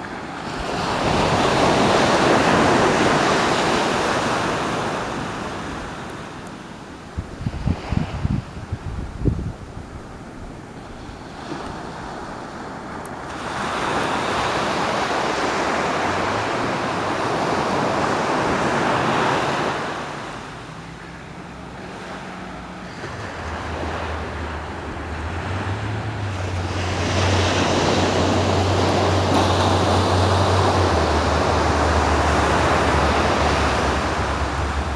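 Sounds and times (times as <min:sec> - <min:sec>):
ocean surf washing onto beach: 0:00.0 - 0:34.9.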